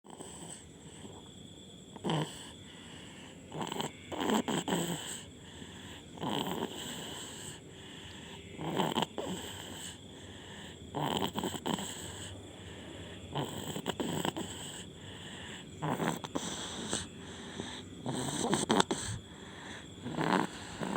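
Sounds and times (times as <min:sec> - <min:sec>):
baby snoring: 0:00.0 - 0:01.3, 0:01.9 - 0:12.4, 0:13.3 - 0:20.9.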